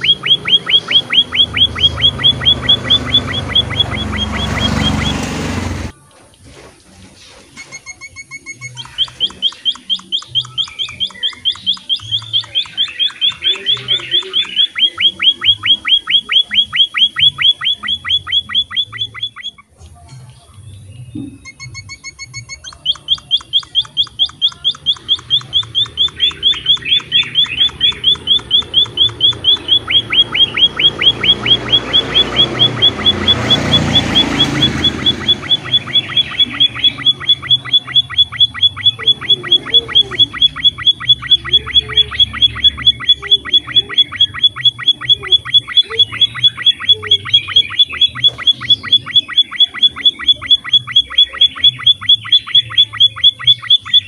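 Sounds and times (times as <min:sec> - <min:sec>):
bird calling high downward notes: 0:00.0 - 0:06.0, 0:07.4 - 0:54.0.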